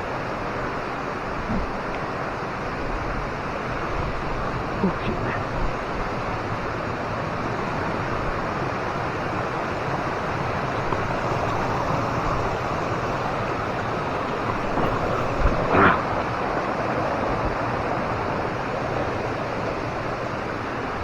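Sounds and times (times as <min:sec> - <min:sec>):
waterfall rushing: 0:00.2 - 0:21.0.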